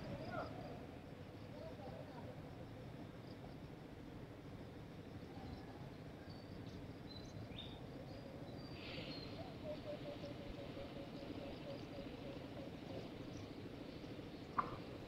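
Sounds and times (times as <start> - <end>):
insects calling: 0.0 - 15.0.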